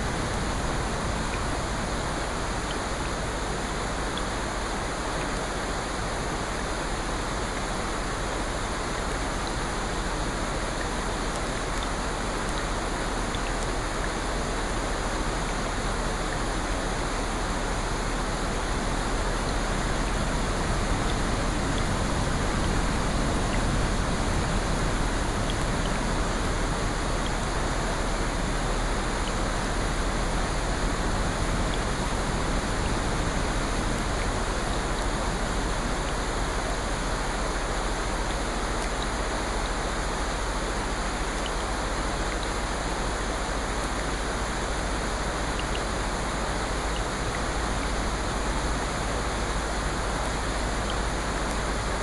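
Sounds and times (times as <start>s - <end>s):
faint raindrop ticks: 0.0s - 52.0s
steady rain hiss: 0.0s - 52.0s.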